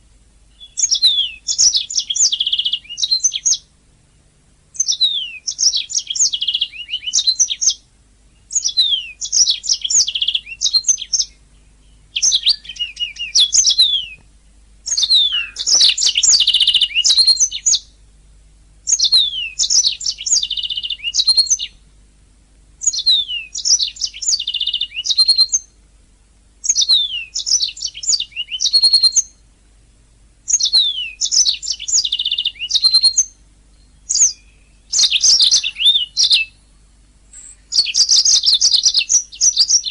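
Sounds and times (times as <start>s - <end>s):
canary singing: 0.5s - 3.7s, 4.7s - 18.0s, 18.8s - 21.9s, 22.8s - 25.8s, 26.6s - 29.5s, 30.4s - 39.9s.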